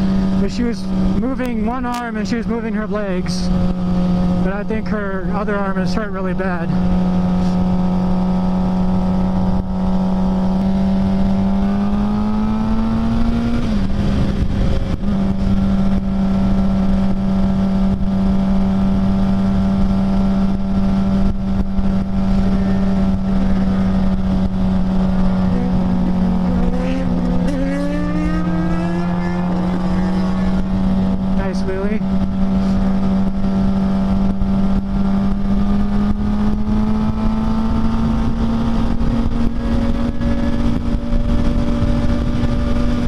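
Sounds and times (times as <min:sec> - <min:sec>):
motorcycle engine running: 0:00.0 - 0:43.0
wind noise: 0:00.0 - 0:43.0.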